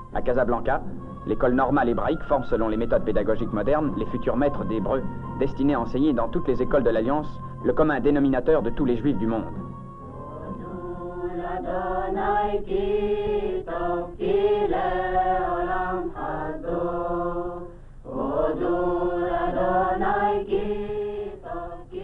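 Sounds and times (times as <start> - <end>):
choir chanting: 1.0 - 22.0.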